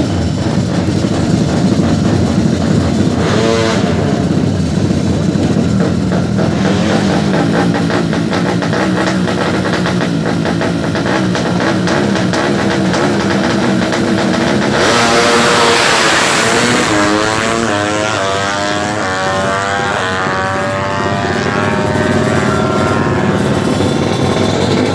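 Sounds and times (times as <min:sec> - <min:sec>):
motorcycle accelerating through gears: 0:00.0 - 0:24.9
motorcycle engines revving: 0:00.0 - 0:24.9.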